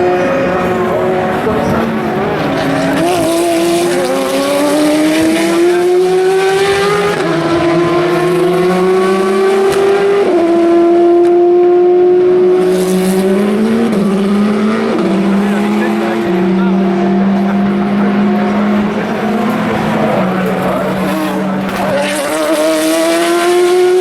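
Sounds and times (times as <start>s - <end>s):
race car engines accelerating: 0.0s - 24.0s.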